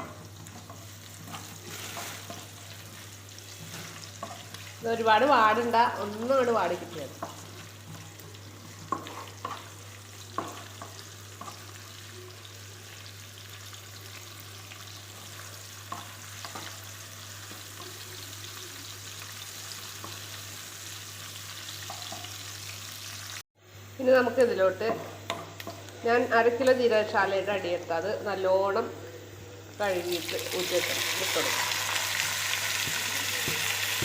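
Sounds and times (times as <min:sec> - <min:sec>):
onions sizzling: 0:00.0 - 0:23.4, 0:29.0 - 0:34.0.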